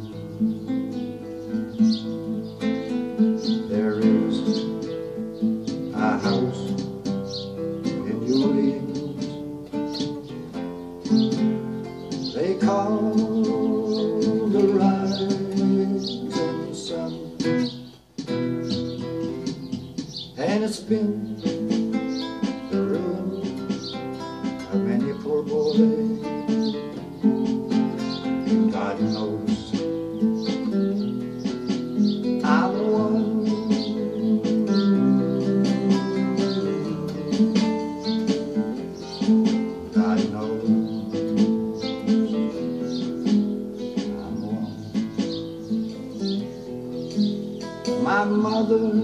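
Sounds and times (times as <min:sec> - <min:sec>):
acoustic guitar playing: 0:00.0 - 0:49.0
electronic percussion pad beats: 0:00.8 - 0:20.5, 0:21.3 - 0:48.8.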